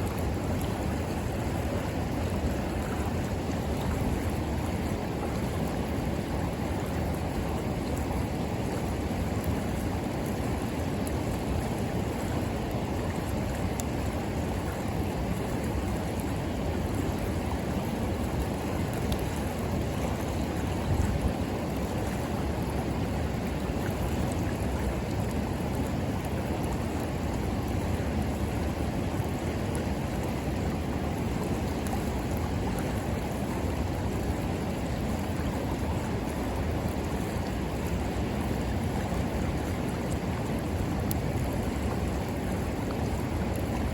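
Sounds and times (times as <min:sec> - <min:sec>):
river flowing: 0:00.0 - 0:43.9.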